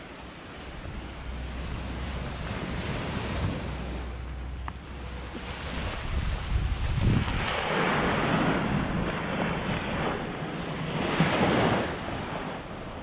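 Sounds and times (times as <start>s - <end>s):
waves breaking on shore: 0.0s - 13.0s
wind buffeting microphone: 0.1s - 13.0s.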